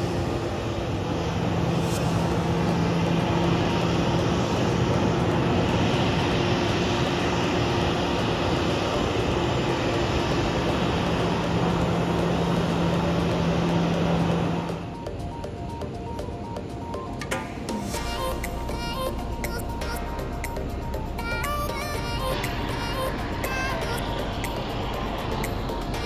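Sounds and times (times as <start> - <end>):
jet engines running: 0.0 - 26.0
low hum: 0.0 - 26.0.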